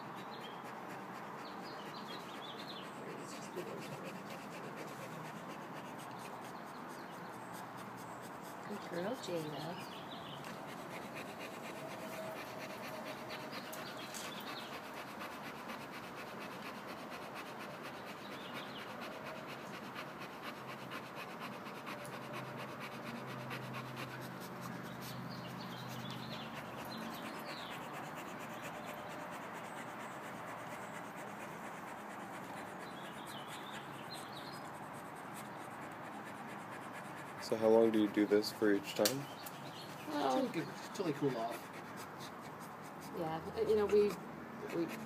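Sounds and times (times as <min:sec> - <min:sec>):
dog panting: 0:00.0 - 0:45.0.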